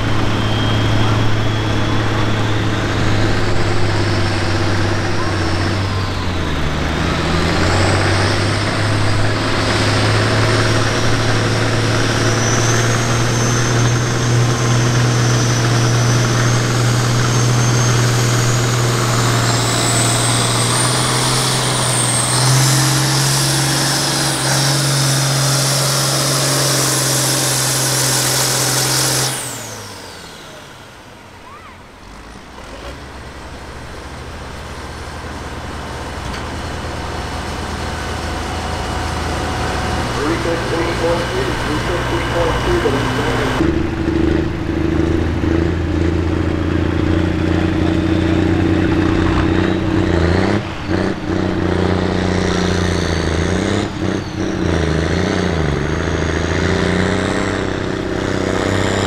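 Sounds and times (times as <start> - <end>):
high whine climbing in pitch: 0.0 - 31.0, 36.7 - 55.1
diesel tractor engine at full throttle: 0.0 - 59.0.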